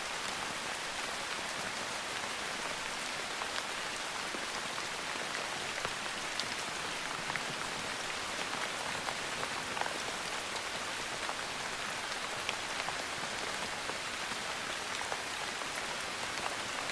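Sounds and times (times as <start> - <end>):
steady rain falling: 0.0 - 16.9.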